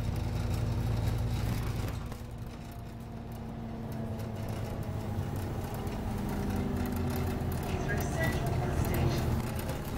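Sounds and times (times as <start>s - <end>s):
bus engine and road drone: 0.0s - 9.9s.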